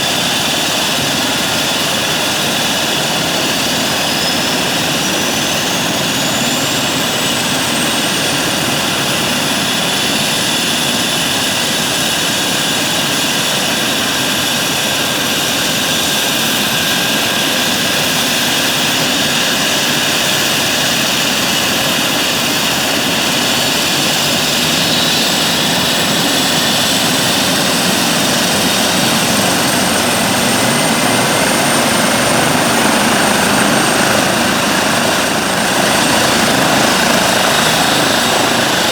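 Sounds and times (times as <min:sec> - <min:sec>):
helicopter turbine and rotor noise: 0:00.0 - 0:38.9.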